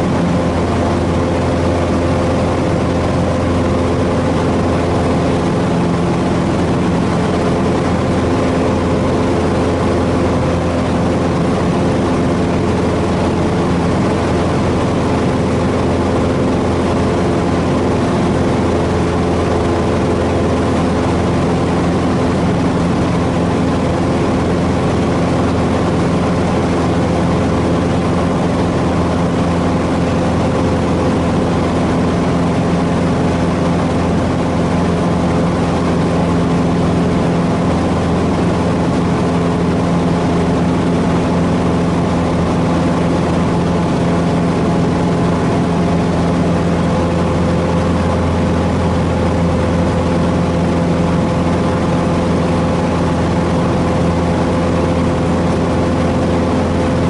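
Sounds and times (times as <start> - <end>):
aircraft engine drone in cabin: 0.0 - 57.0.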